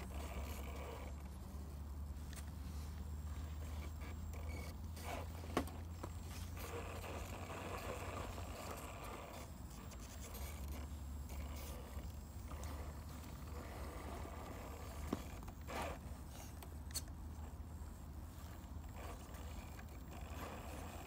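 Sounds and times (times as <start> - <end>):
electric motor and gearbox whirring: 0.0 - 21.0.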